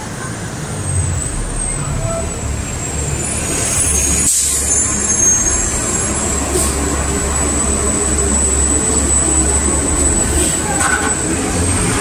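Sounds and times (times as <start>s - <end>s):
traffic engine hum: 0.0s - 12.0s.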